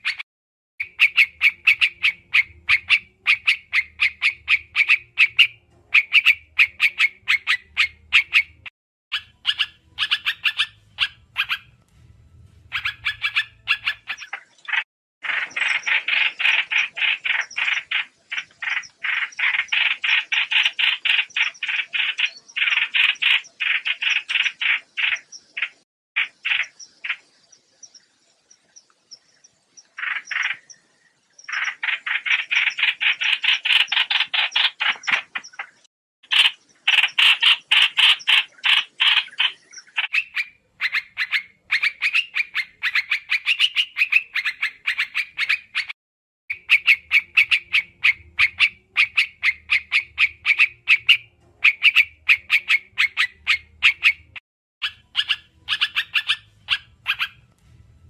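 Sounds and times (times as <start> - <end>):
bird calls of sharp repeated notes: 0.0 - 0.2, 0.8 - 11.9, 12.5 - 57.6.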